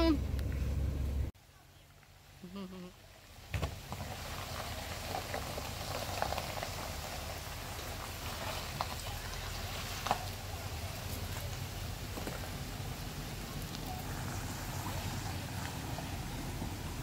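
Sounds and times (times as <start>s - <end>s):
truck engine rumble: 0.0s - 17.0s
water splashing: 3.3s - 17.0s.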